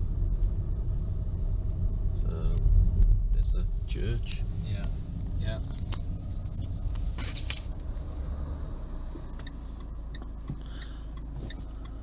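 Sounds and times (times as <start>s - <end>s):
car rumble from inside cabin: 0.0s - 12.0s.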